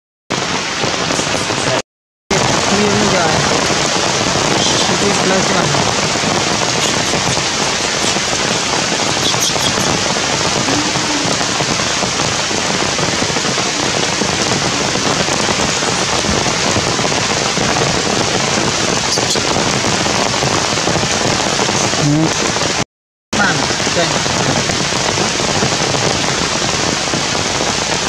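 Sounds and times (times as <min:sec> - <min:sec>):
rain pouring: 0:00.3 - 0:22.8, 0:23.4 - 0:28.0.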